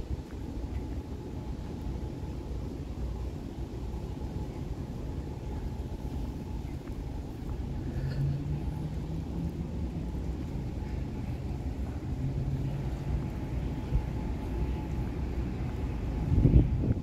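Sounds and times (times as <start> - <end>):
low hum: 0.0 - 17.0
low outdoor rumble: 0.0 - 17.0.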